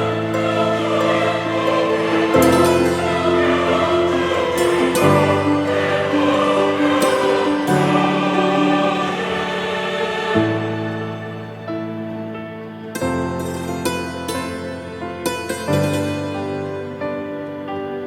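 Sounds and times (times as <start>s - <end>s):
wordless choir-like voices: 0.0s - 14.7s
slow sustained chords: 0.0s - 18.0s.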